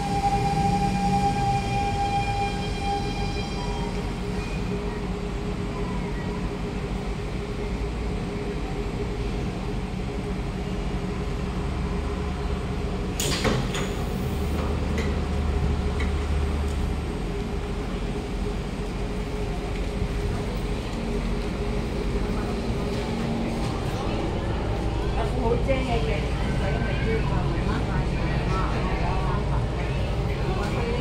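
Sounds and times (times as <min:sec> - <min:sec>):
train electrical hum: 0:00.0 - 0:31.0.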